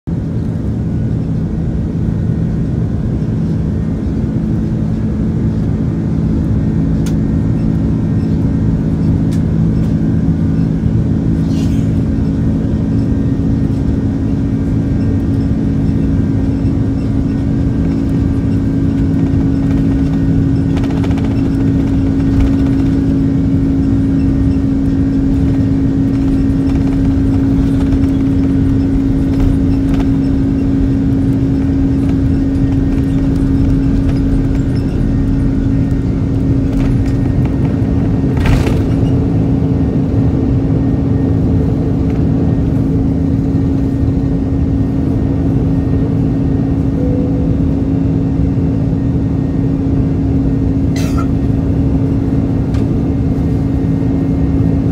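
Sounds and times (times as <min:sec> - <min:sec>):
jet engines humming from cabin: 0:00.1 - 0:54.9.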